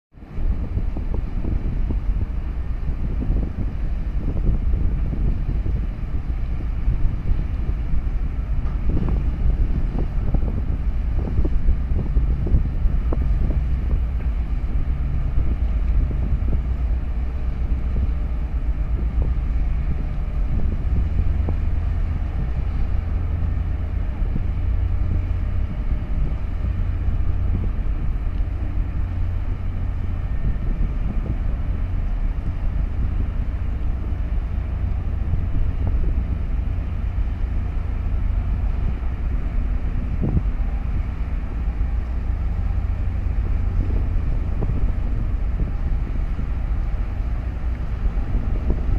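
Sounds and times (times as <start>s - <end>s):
large engine droning: 0.1s - 48.9s
wind buffeting microphone: 0.1s - 48.9s.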